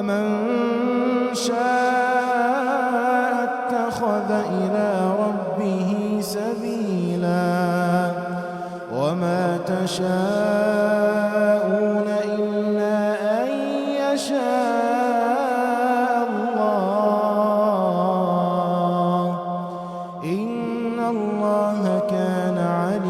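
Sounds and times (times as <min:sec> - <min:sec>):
person reciting melodically: 0:00.0 - 0:23.0.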